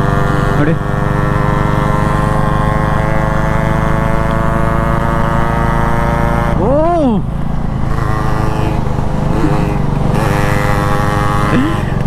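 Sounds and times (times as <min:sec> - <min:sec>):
motorcycle engine revving: 0:00.0 - 0:12.0
motorcycle engines cruising: 0:00.0 - 0:12.0.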